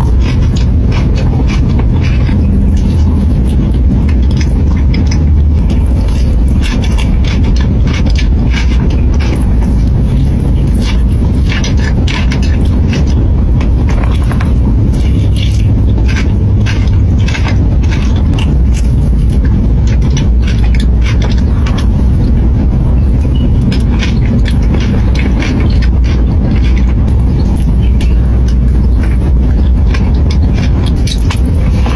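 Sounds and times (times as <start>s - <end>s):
clicks and scrapes of eating: 0.0s - 31.9s
loud low rumble: 0.0s - 31.9s.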